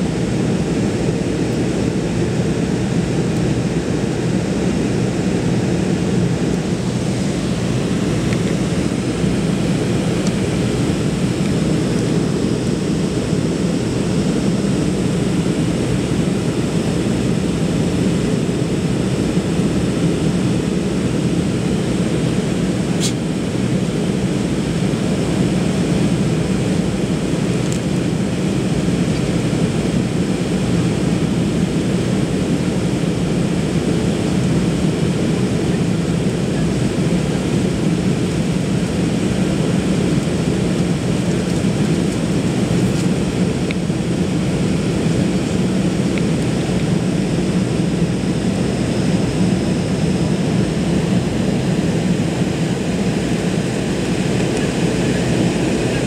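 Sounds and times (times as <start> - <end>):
jet engine and airflow in cabin: 0.0 - 56.0.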